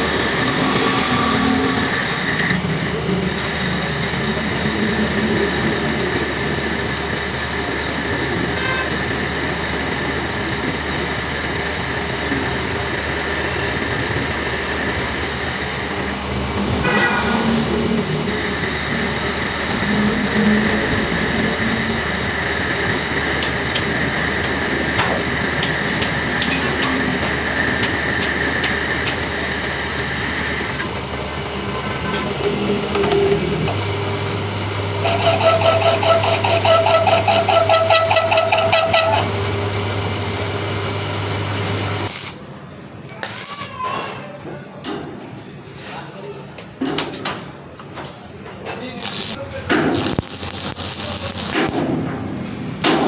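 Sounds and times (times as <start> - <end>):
metal lathe running: 0.0 - 42.4, 49.0 - 53.0.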